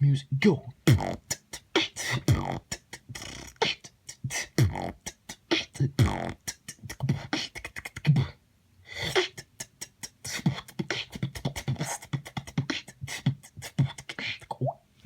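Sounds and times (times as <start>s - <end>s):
beatboxing: 0.4s - 14.8s.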